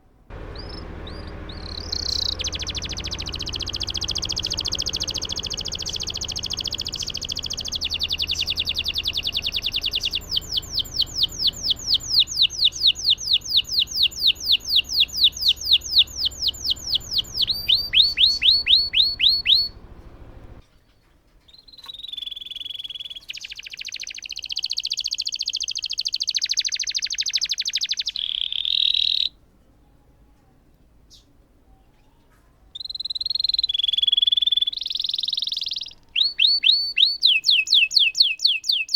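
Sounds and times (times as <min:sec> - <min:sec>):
canary singing trills: 0:00.3 - 0:20.6, 0:21.5 - 0:29.4, 0:31.1 - 0:38.9.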